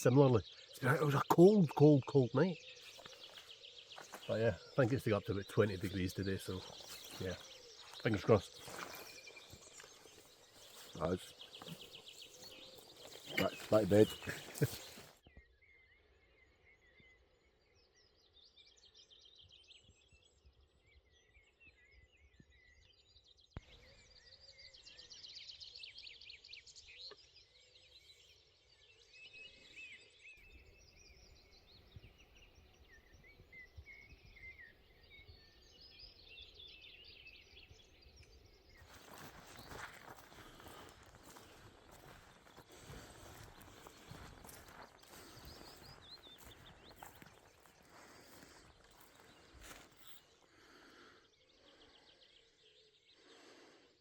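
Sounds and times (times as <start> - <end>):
birds chirping and singing: 0.0 - 17.2, 23.7 - 54.0.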